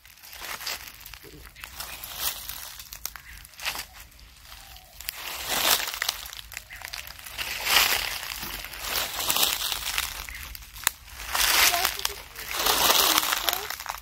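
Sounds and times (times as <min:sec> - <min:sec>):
crinkly sheet material rustling: 0:00.0 - 0:14.0.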